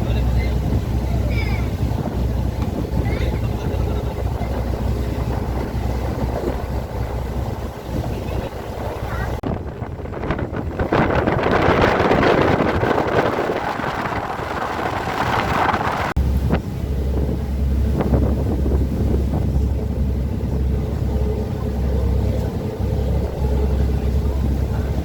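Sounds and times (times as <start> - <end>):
low engine drone: 0.0 - 25.0
wind blasting microphone: 0.0 - 25.0.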